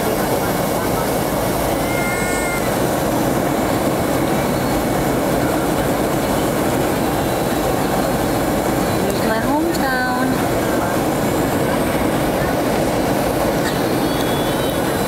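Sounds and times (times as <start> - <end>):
airliner cabin noise: 0.0 - 15.0.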